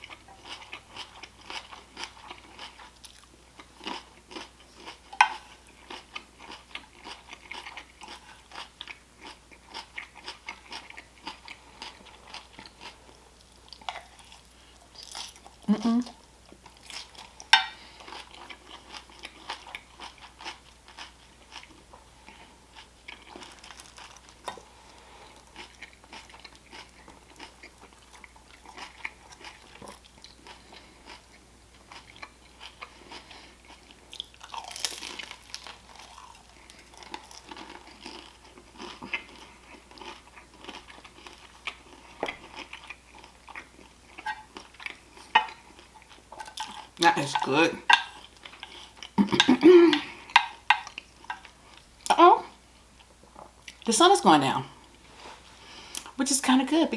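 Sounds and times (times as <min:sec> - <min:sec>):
chewing and crunching food: 0:00.0 - 0:53.9.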